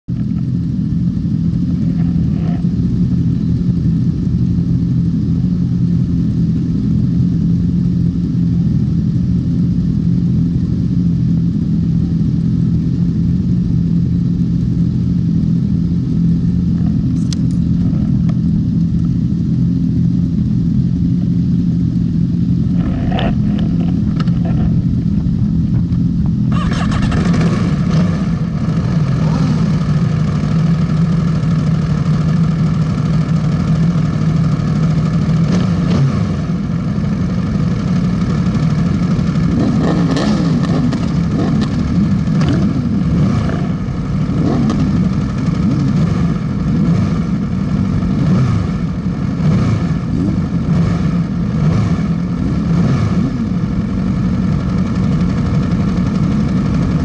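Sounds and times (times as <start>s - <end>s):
motorcycle engine idling: 0.1s - 57.0s.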